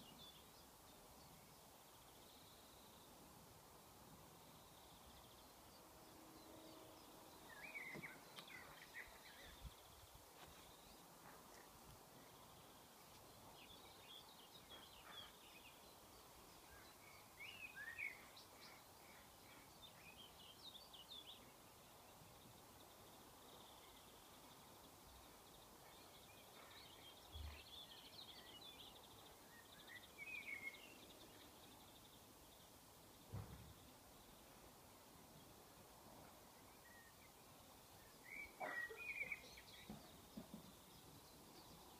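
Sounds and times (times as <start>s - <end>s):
quiet outdoor hiss: 0.0s - 41.9s
birds chirping: 4.5s - 34.4s, 36.5s - 41.9s.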